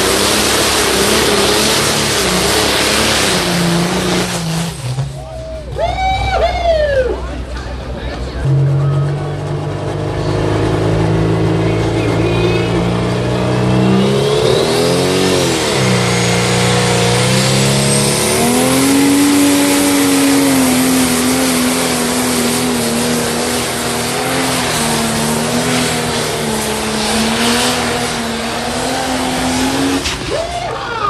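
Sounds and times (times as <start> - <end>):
tractor engine running hard: 0.0 - 31.0.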